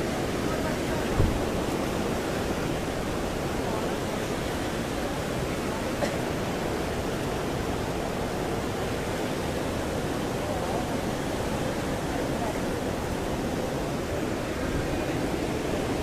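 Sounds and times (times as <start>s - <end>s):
rushing floodwater: 0.0s - 16.0s.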